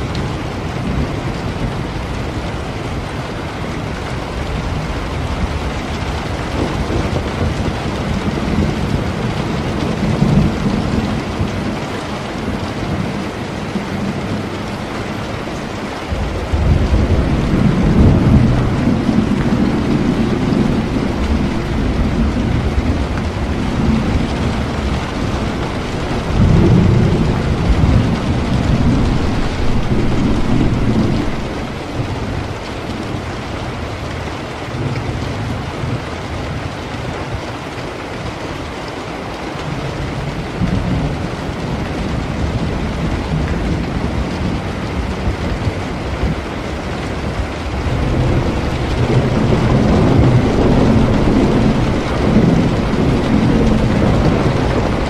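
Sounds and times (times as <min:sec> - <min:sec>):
steady rain: 0:00.0 - 0:55.0
rolling thunder: 0:03.8 - 0:36.8, 0:40.4 - 0:55.0.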